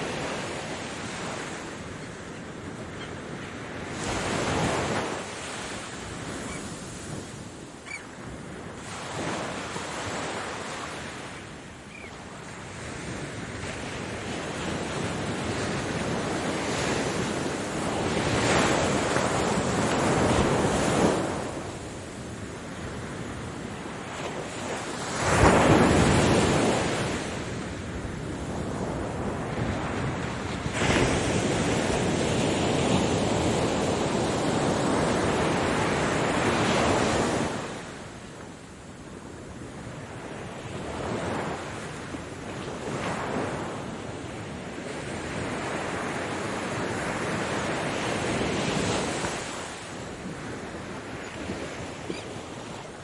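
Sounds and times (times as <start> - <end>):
ocean waves breaking: 0.0 - 38.2, 39.6 - 53.0.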